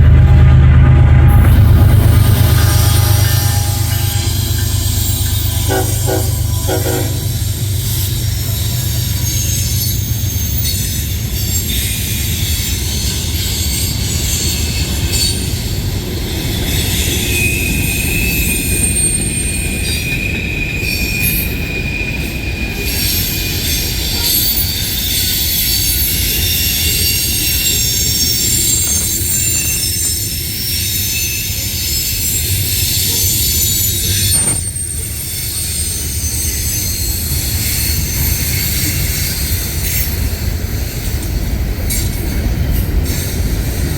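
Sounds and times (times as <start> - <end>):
train cars rumbling on rails: 0.0 - 43.9
train wheels squealing: 0.0 - 43.9.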